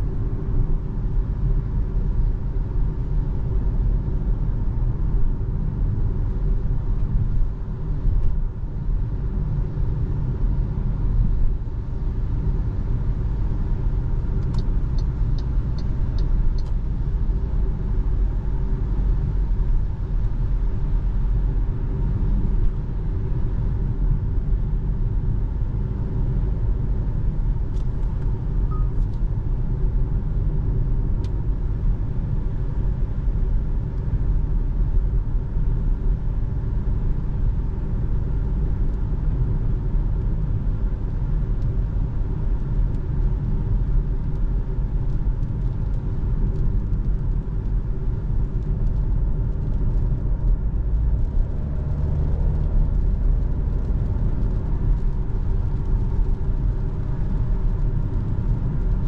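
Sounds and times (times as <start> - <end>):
car cabin tyre rumble: 0.0 - 59.0.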